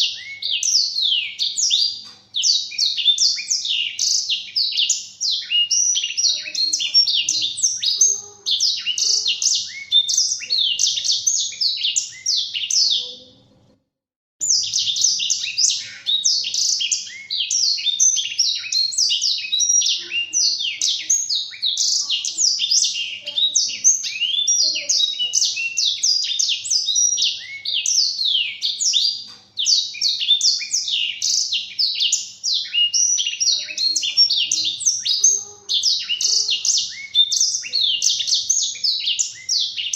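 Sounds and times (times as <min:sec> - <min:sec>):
canary twittering song: 0:00.0 - 0:13.7, 0:14.4 - 0:39.9.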